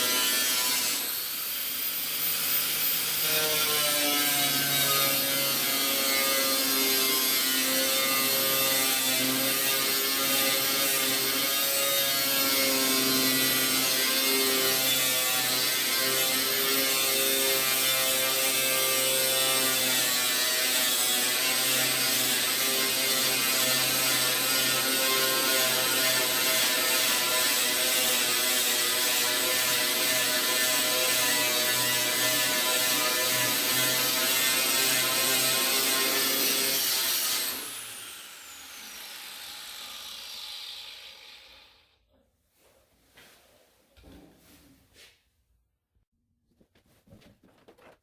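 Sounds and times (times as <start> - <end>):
rotary power tool whining: 0.0 - 41.8
angle grinder stripping metal: 0.0 - 41.9.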